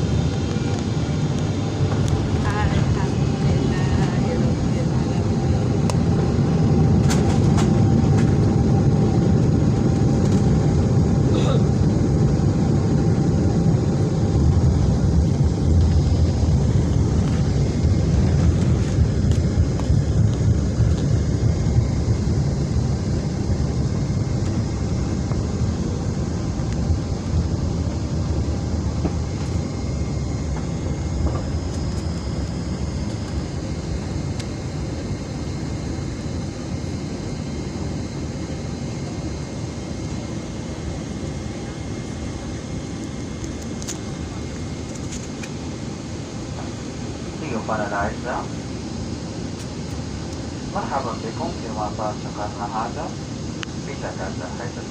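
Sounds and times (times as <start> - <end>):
jet airliner cabin rumble: 0.0 - 54.9.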